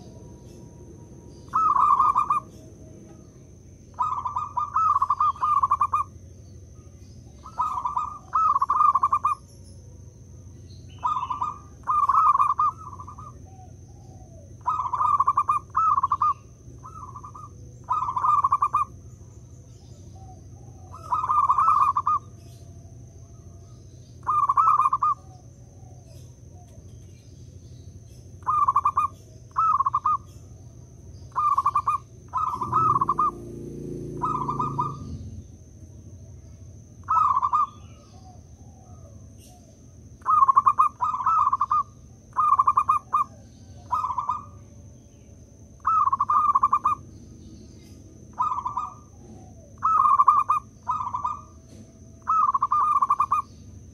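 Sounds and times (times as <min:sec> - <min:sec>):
dove cooing: 0:00.0 - 0:27.2, 0:28.3 - 0:30.6, 0:31.2 - 0:53.9.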